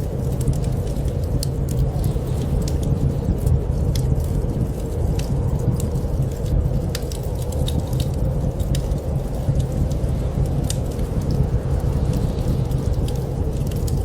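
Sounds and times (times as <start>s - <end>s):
low rumble: 0.0s - 14.0s
wood fire crackling: 0.0s - 14.0s.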